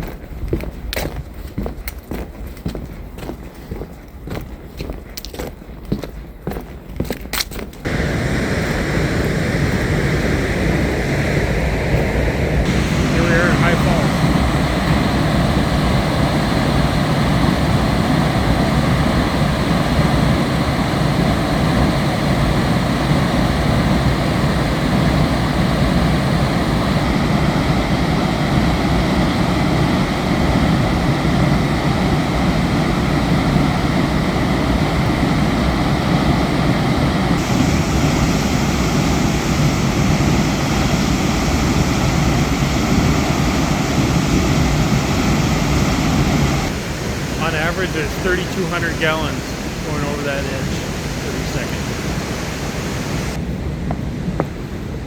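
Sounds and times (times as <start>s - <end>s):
waterfall rushing: 7.8s - 53.4s.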